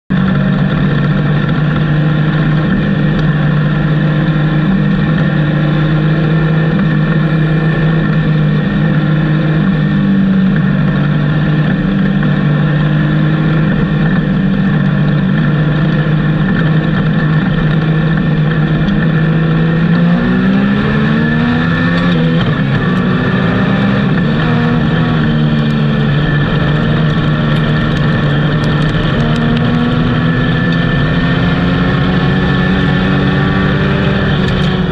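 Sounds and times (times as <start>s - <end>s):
race car engine from cockpit: 0.1s - 34.9s.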